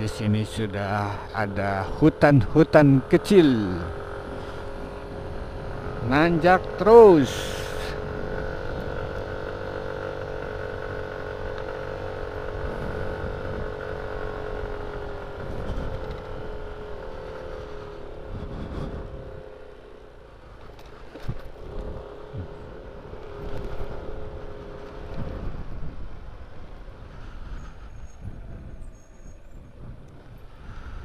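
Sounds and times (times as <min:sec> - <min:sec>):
scooter engine droning: 0:00.0 - 0:31.0.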